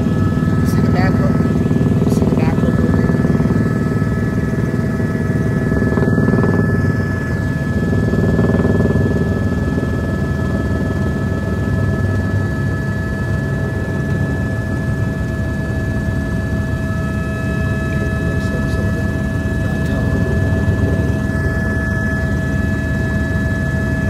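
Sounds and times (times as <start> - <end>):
constant whining tones: 0.0 - 24.0
helicopter rotor and engine rumble: 0.0 - 24.0.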